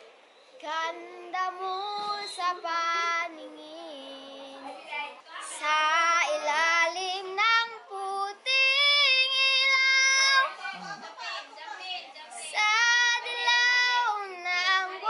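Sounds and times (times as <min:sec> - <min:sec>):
girl singing: 0:00.6 - 0:10.6, 0:12.4 - 0:15.0.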